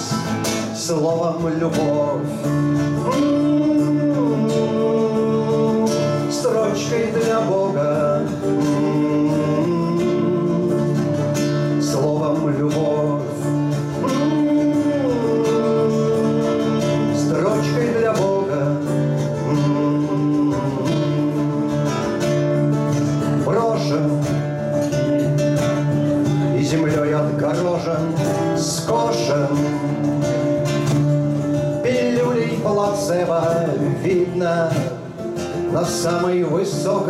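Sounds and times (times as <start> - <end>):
acoustic guitars playing: 0.0 - 37.0
person singing: 0.0 - 37.0.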